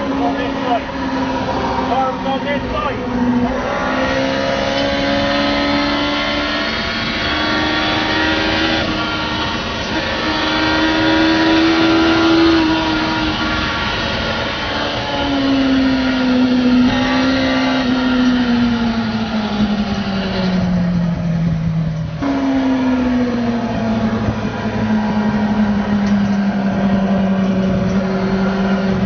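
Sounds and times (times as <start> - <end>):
high-revving motorcycle engine: 0.0 - 29.0.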